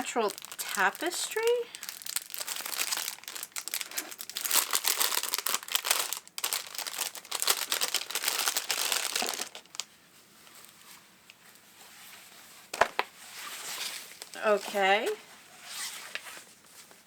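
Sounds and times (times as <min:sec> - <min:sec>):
packaging crinkling and rustling: 0:00.0 - 0:10.9, 0:12.8 - 0:17.0.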